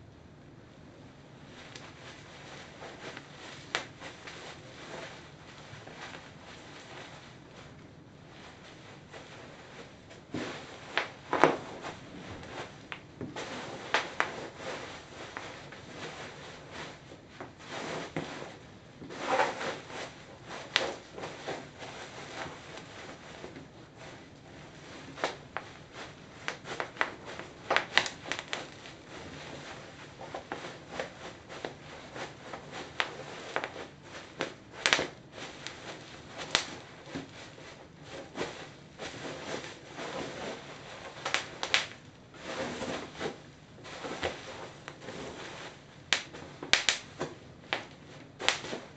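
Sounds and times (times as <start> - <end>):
bubble wrap crinkling underfoot: 1.4 - 48.9.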